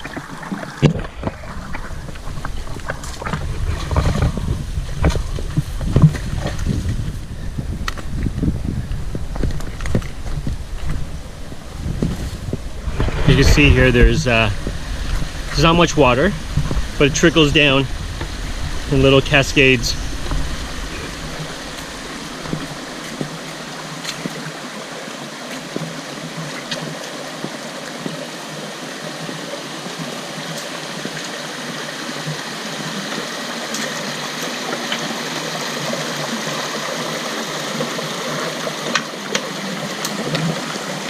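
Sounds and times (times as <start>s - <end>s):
creek trickling over rock: 0.0s - 41.0s.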